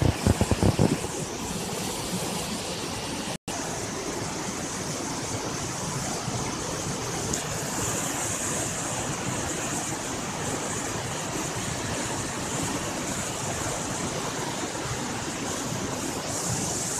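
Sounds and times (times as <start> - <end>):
water rushing over rocks: 0.0 - 16.9.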